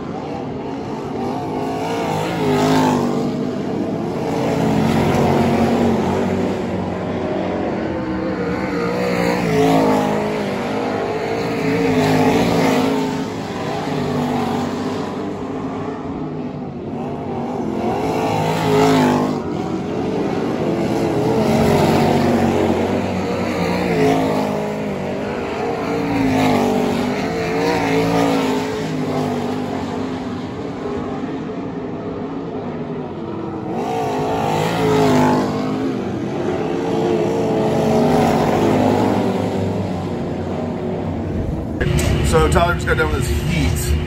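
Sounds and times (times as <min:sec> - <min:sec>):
race car engines revving: 0:00.0 - 0:44.0.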